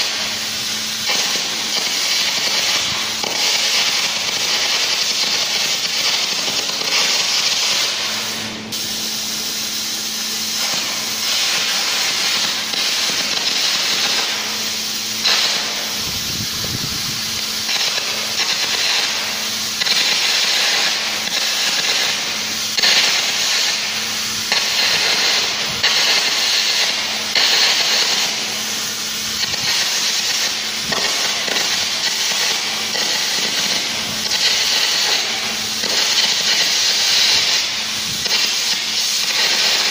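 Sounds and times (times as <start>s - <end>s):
arc gouging crackling hiss: 0.0s - 39.9s.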